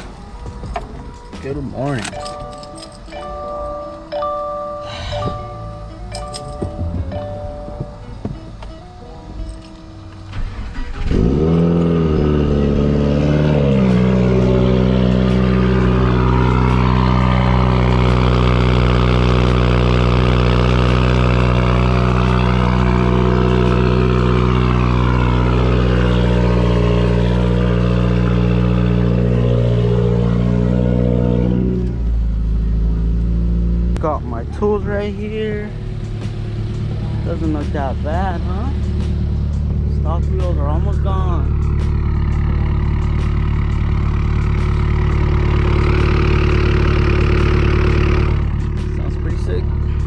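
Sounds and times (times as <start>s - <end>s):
car engine starting and idling: 0.0s - 50.0s.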